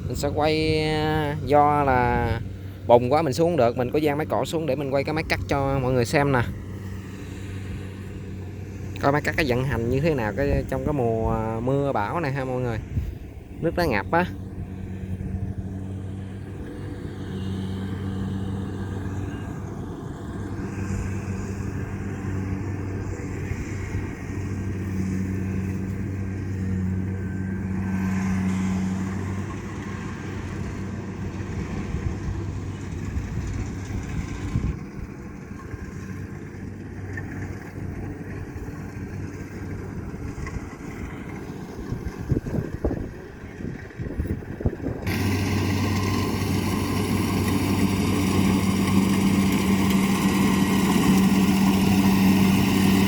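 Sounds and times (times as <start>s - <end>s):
diesel harvester engines: 0.0s - 53.0s.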